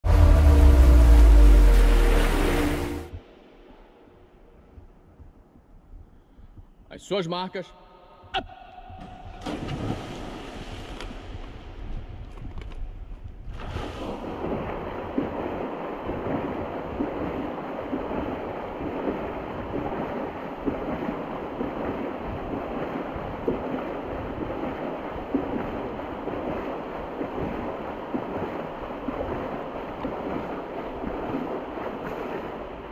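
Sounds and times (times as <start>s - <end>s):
water splashing and churning: 0.0s - 4.0s, 8.9s - 32.9s.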